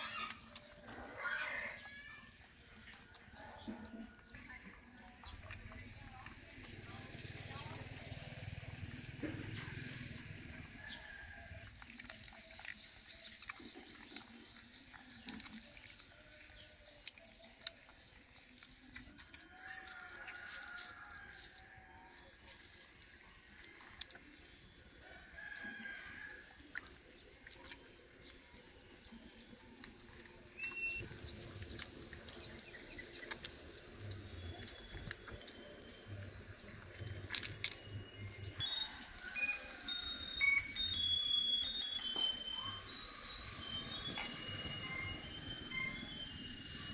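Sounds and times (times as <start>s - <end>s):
puppies suckling: 0.0s - 7.5s, 11.5s - 20.7s, 25.9s - 46.9s.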